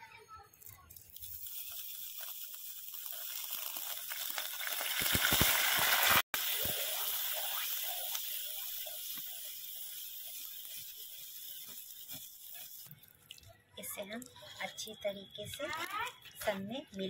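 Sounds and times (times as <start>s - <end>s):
hot ghee sizzling: 1.0s - 17.0s.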